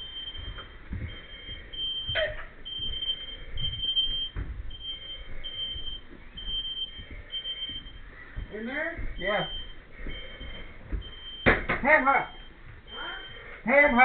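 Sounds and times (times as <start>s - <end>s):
smoke alarm beeping: 0.0s - 14.0s.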